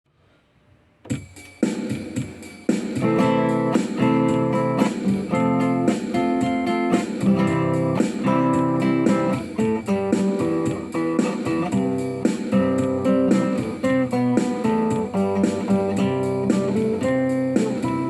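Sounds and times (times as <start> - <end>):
guitar strumming chords: 2.9 - 18.0.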